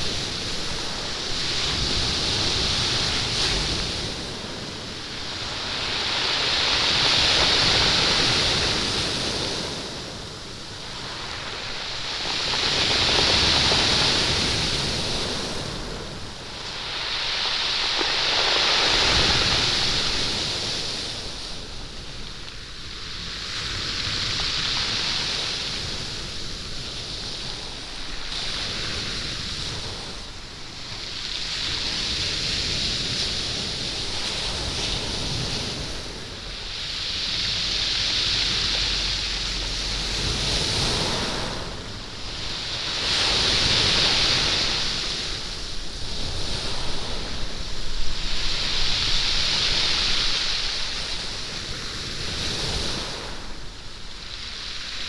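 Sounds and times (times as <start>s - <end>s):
waves washing over stony beach: 0.0s - 55.0s.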